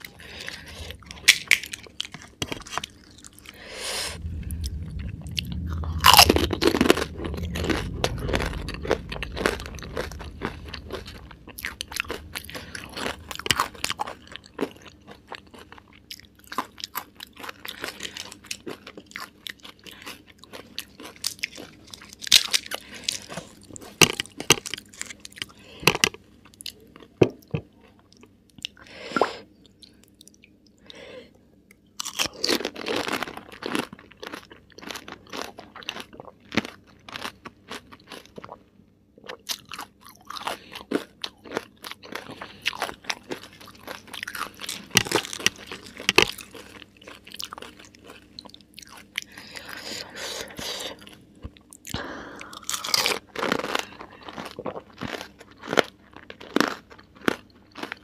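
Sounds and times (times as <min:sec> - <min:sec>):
crunching and chewing: 0:00.0 - 0:28.9, 0:31.7 - 0:58.0.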